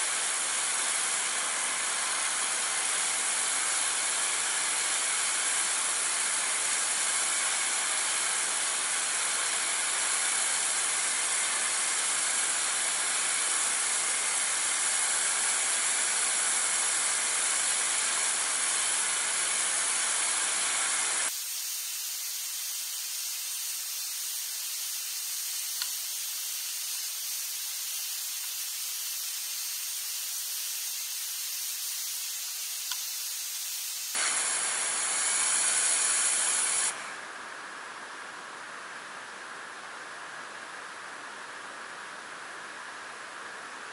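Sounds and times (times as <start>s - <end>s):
pressure washer jet hissing: 0.0s - 37.2s.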